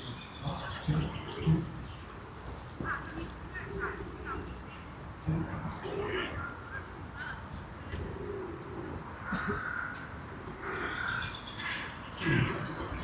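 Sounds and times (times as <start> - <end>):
birds calling: 0.0 - 13.0
steady background hum: 0.0 - 13.0.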